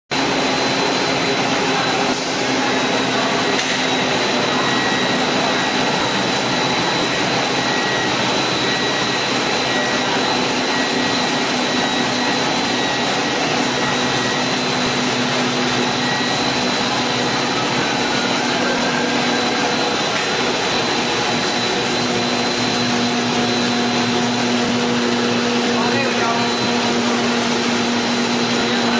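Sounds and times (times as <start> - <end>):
laminating machine running: 0.1 - 28.9
thin high whine: 0.7 - 28.9.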